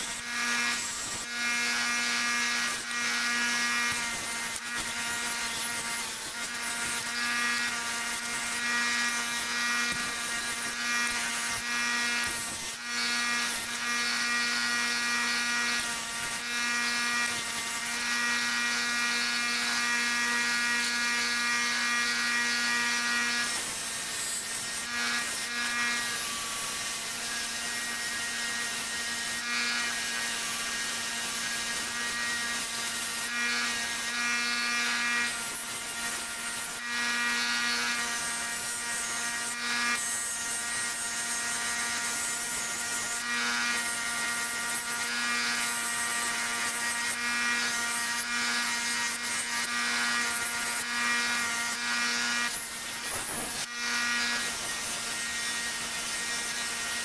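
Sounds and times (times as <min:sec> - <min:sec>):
bench grinder motor humming: 0:00.0 - 0:57.0
blade grinding on wheel: 0:00.0 - 0:57.0.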